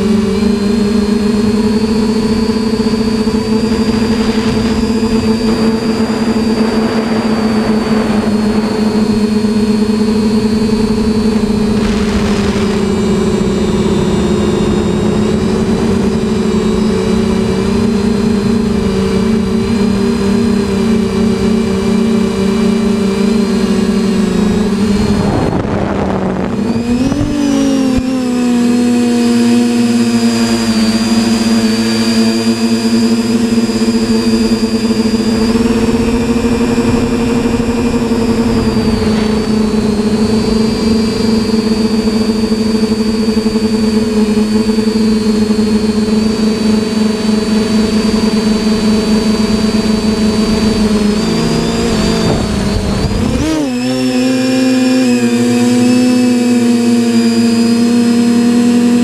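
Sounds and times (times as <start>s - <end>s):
quadcopter motors and propellers: 0.0s - 59.0s.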